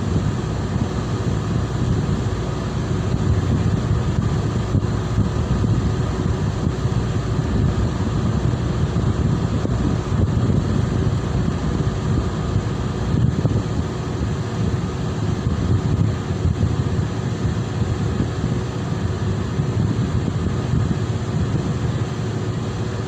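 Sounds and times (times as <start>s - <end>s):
boat engine running: 0.0s - 23.0s
wind rumble on microphone: 0.0s - 23.0s.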